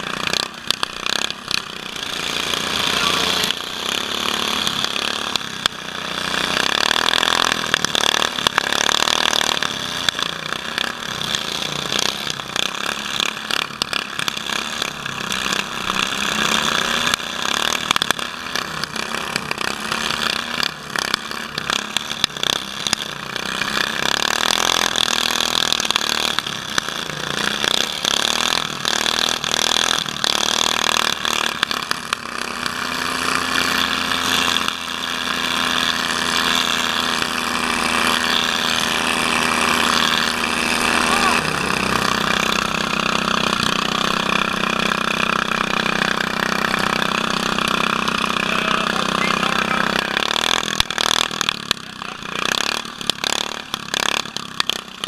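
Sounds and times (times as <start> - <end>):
constant rattle: 0.0 - 55.0
riding lawn mower engines revving: 0.0 - 55.0.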